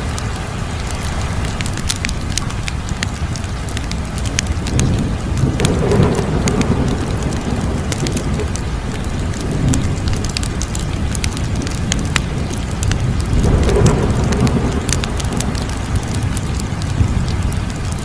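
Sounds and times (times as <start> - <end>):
fire popping and snapping: 0.0 - 18.0
fire roaring: 0.0 - 18.0.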